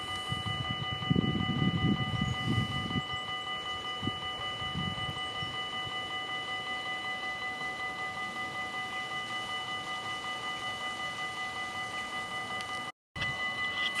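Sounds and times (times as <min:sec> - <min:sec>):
level-crossing warning bells ringing: 0:00.0 - 0:14.0.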